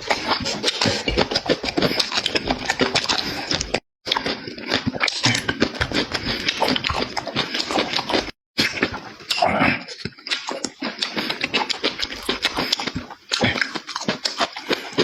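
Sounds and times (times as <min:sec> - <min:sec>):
person chewing and smacking: 0:00.0 - 0:15.0.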